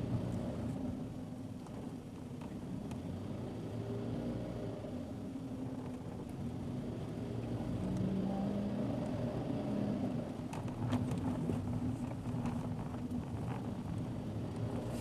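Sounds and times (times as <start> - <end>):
car engine: 0.0 - 15.0.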